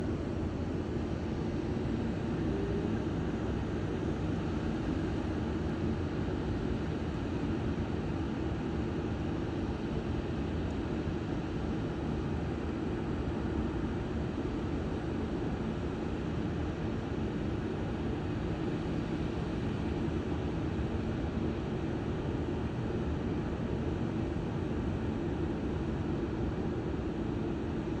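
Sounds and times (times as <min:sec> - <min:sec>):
low rumbling background noise: 0:00.0 - 0:28.0.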